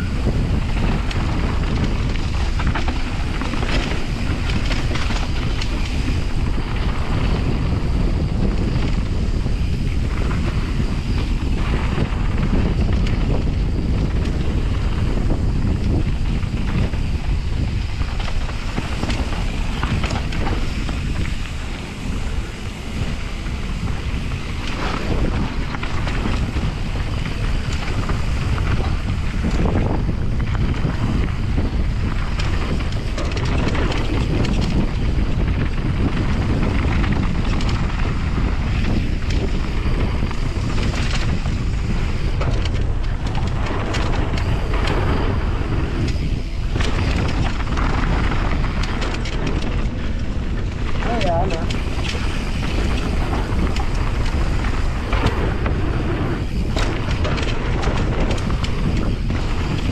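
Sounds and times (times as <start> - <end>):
tyres rumbling over dirt: 0.0 - 59.9
wind buffeting microphone: 0.0 - 59.9.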